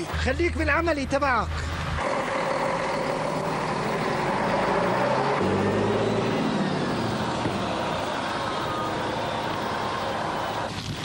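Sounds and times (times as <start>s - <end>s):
bus engine pulling away: 1.5s - 10.8s.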